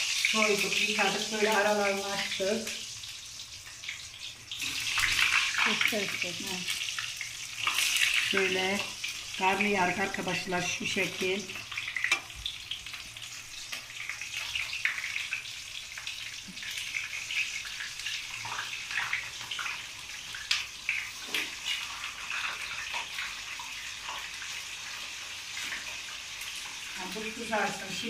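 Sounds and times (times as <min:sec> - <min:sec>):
eggplants frying in hot oil: 0:00.0 - 0:28.0.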